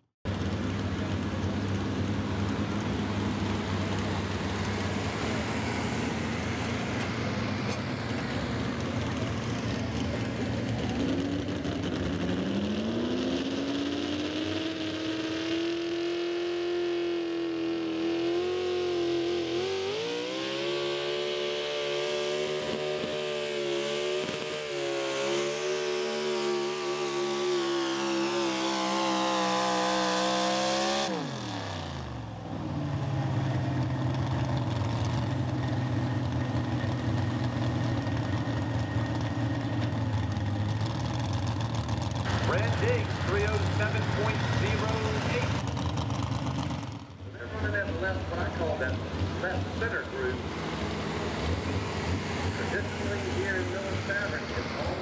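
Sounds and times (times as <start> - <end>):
truck engine at full throttle: 0.0 - 55.0.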